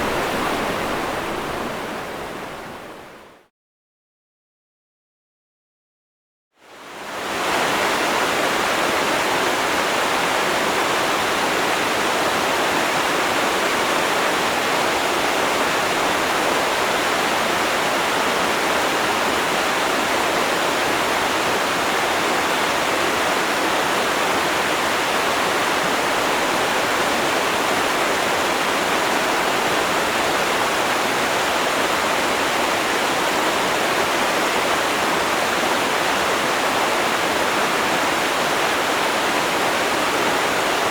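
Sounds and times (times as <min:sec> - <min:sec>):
river water rushing: 0:00.0 - 0:03.3, 0:07.1 - 0:40.9.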